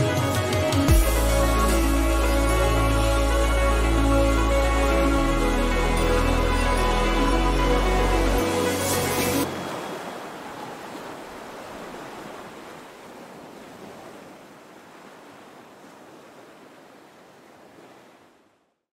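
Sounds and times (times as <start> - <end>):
ocean waves hissing: 1.1 - 18.2.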